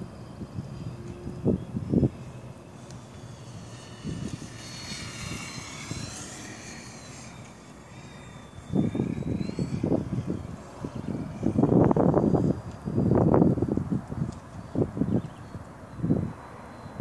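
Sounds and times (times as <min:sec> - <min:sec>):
model plane motor whine: 0:00.0 - 0:17.0
wind buffeting microphone: 0:00.0 - 0:17.0.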